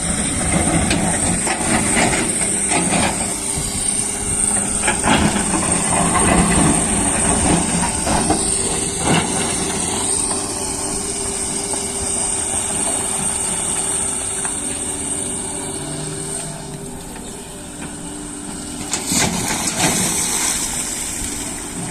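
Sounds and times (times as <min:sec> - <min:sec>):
excavator engine drone: 0:00.0 - 0:21.9.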